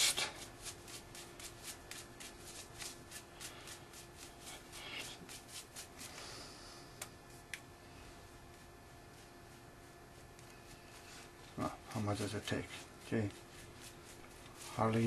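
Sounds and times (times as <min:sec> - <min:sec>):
brush scratchy strokes: 0:00.0 - 0:06.2, 0:07.3 - 0:15.0.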